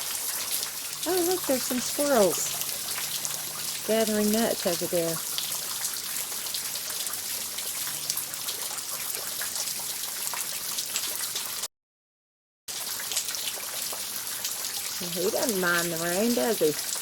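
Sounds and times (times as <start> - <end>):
steady rain falling: 0.0 - 11.7, 12.7 - 17.0.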